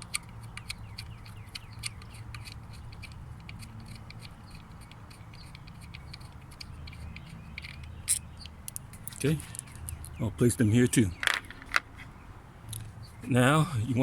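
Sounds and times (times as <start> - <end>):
metallic clicks and scrapes: 0.0 - 10.2, 11.2 - 12.9.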